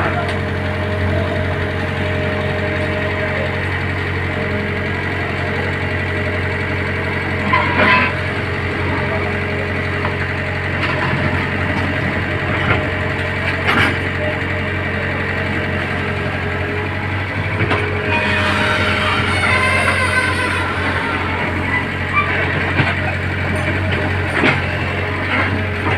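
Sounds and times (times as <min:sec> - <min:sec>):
machinery engine idling: 0:00.0 - 0:25.9.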